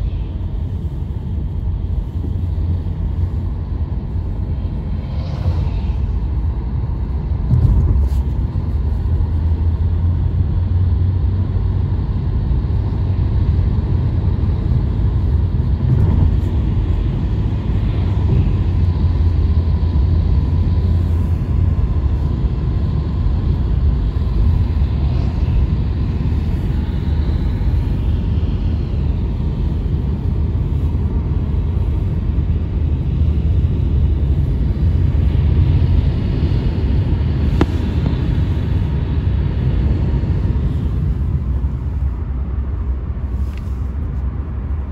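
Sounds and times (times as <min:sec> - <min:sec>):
car driving rumble: 0:00.0 - 0:44.9.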